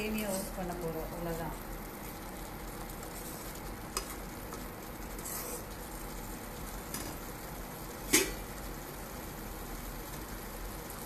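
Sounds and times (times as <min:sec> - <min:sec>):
noodles boiling in water: 0:00.0 - 0:11.0.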